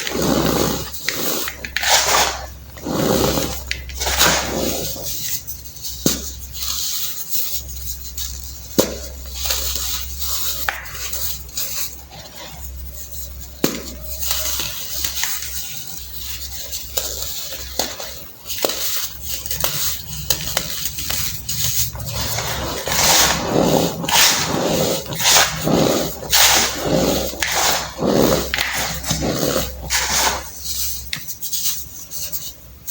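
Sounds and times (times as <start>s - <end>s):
baking soda crunching: 0.0s - 32.4s.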